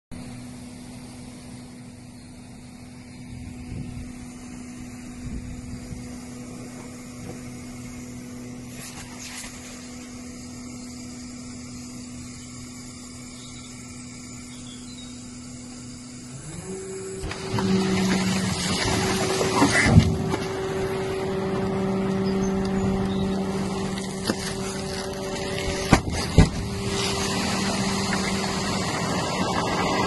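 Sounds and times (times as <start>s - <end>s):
garbage truck engine droning: 0.1s - 30.0s.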